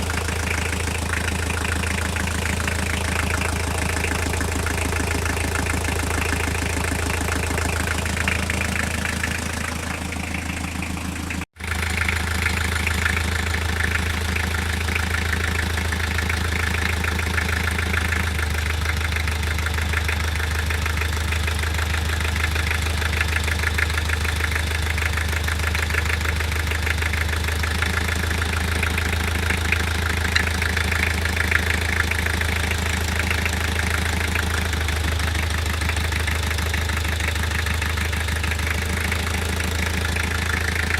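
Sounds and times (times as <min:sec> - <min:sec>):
diesel engine idling with knock: 0:00.0 - 0:40.9.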